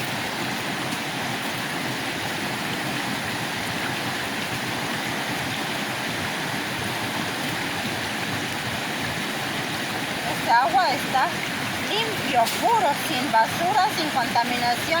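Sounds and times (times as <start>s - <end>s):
river flowing over rocks: 0.0s - 15.0s.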